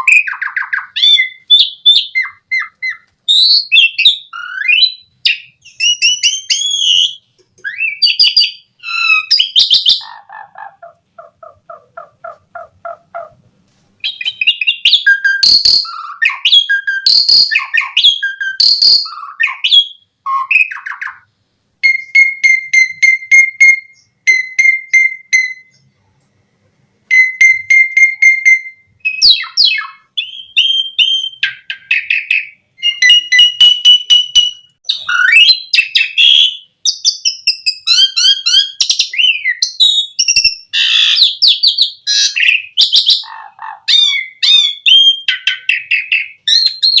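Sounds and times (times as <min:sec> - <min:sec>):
starling singing: 0:00.0 - 0:13.4, 0:14.0 - 0:25.9, 0:27.1 - 0:47.0.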